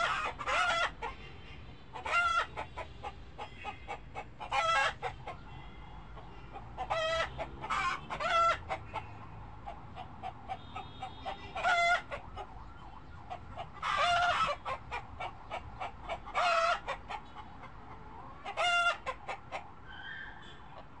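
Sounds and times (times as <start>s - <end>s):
chicken drawn-out calls: 0.0s - 21.0s
chickens clucking: 0.0s - 21.0s.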